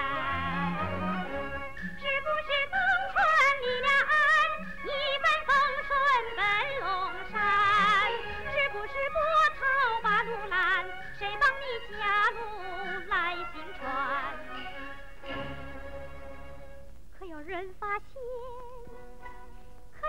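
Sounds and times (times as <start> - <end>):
woman singing opera: 0.0 - 14.7, 17.2 - 20.0
instrumental accompaniment: 0.0 - 17.7, 18.3 - 20.0.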